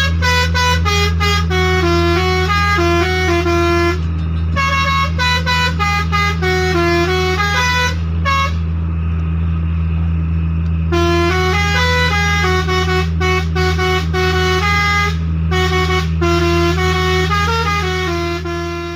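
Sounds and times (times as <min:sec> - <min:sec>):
musical air horn playing a tune: 0:00.0 - 0:08.6, 0:10.9 - 0:18.9
steady low hum: 0:00.0 - 0:18.9.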